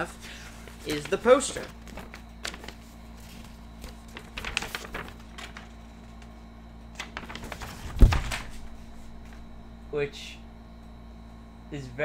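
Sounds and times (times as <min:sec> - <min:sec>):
paper crinkling and rustling: 0:00.0 - 0:09.6.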